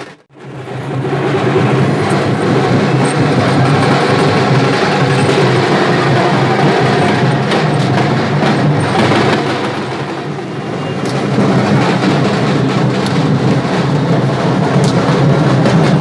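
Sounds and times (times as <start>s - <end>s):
loud music with drumming: 1.6s - 16.0s.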